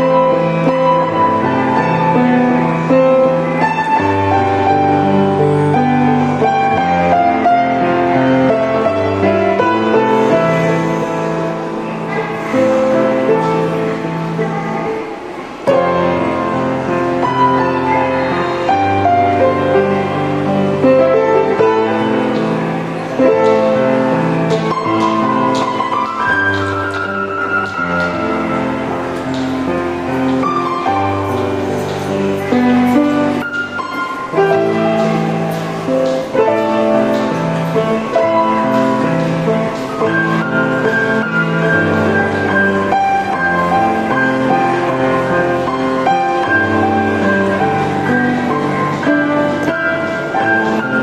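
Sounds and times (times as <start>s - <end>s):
slow instrumental music: 0.0s - 51.0s.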